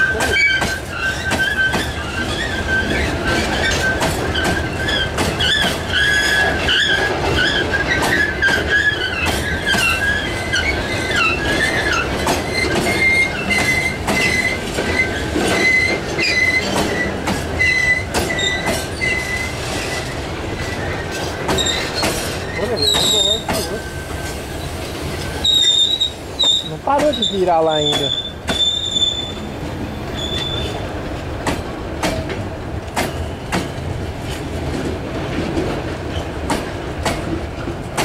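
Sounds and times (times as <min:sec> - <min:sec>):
high wheel squeal: 0:00.0 - 0:30.8
steel wheels rumbling on rail: 0:00.0 - 0:38.0.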